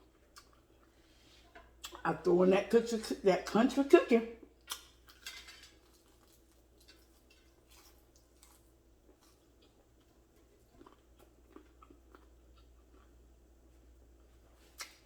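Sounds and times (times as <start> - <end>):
faint chewing: 0.0 - 2.1, 4.4 - 15.0.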